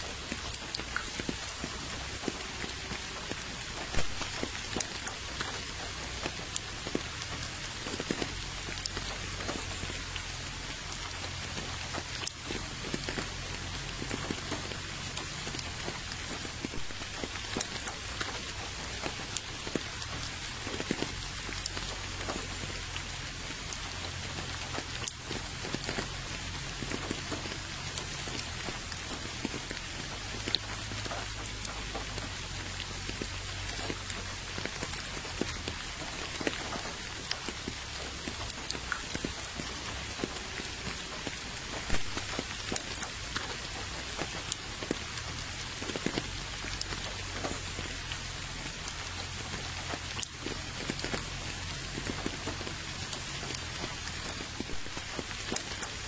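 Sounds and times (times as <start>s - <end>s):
rain hissing: 0.0s - 56.0s
raindrops ticking on water: 0.0s - 56.0s.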